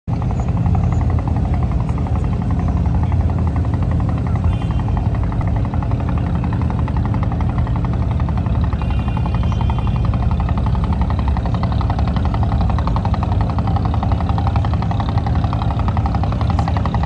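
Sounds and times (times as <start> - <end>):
boat diesel engine chugging: 0.1 - 17.0.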